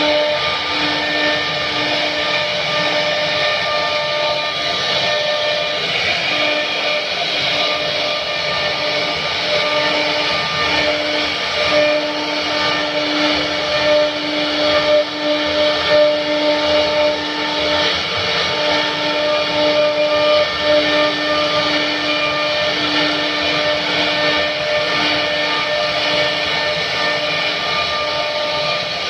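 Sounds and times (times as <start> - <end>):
cutting noise: 0.0 - 29.0
machine spindle whine: 0.0 - 29.0.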